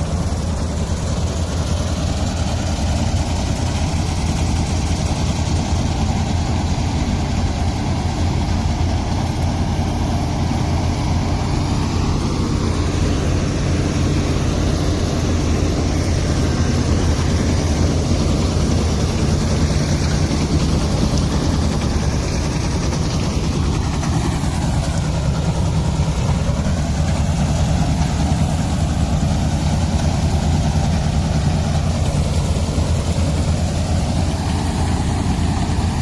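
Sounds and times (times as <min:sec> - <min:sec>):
heavy machinery engine droning: 0:00.0 - 0:36.0.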